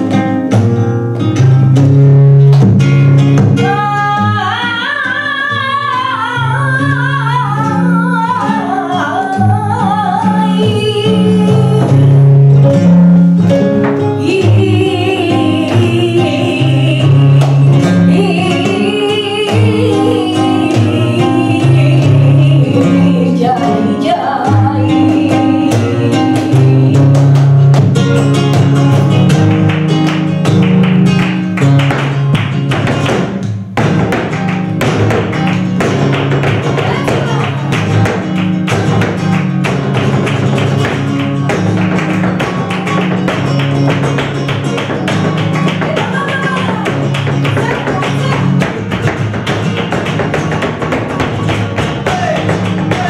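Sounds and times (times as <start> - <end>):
rhythmic hand clapping: 0.0 - 3.8, 13.6 - 53.0
rapid percussive footwork: 0.0 - 3.9, 11.2 - 53.0
acoustic guitar playing: 0.0 - 53.0.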